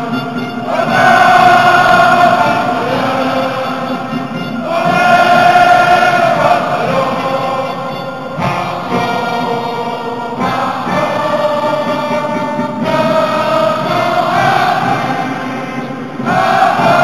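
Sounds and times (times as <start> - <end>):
stadium crowd singing an anthem: 0.0 - 17.0.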